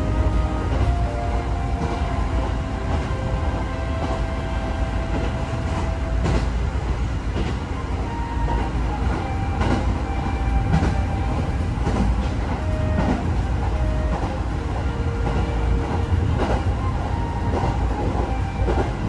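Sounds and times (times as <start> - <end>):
train rumble inside carriage: 0.0 - 19.0.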